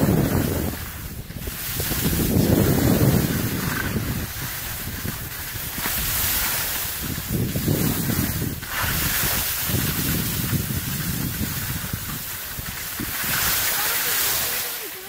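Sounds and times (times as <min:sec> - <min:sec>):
sliding on packed snow: 0:00.0 - 0:15.0
wind buffeting microphone: 0:00.0 - 0:15.0.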